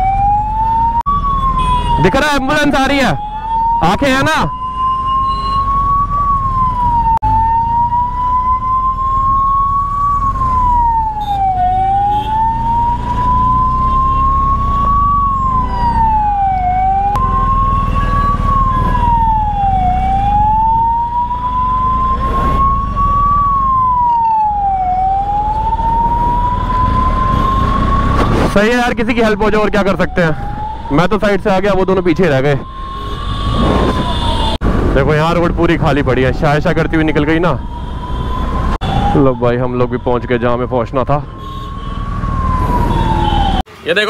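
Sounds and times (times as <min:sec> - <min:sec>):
ambulance siren wailing: 0:00.0 - 0:43.7
engines rumbling in traffic: 0:00.0 - 0:44.0.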